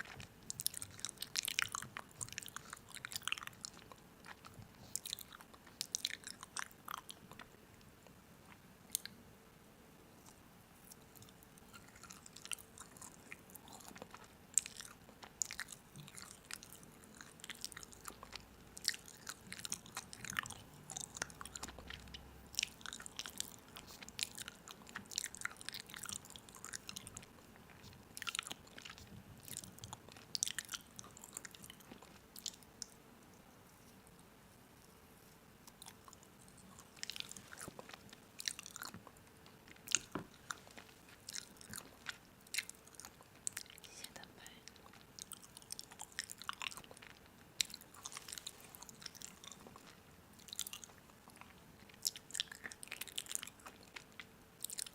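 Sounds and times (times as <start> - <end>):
crunching and chewing crisp food: 0.0 - 9.2, 10.2 - 54.9.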